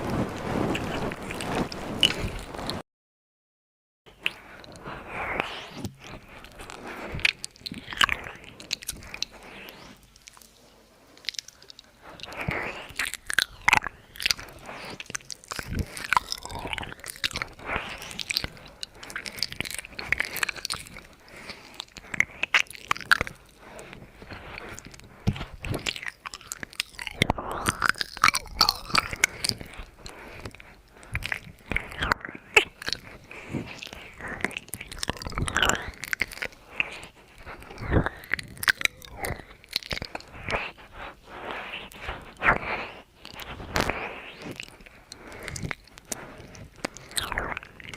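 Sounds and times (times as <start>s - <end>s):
wet mouth clicks and smacks: 4.1s - 10.6s, 11.2s - 47.9s.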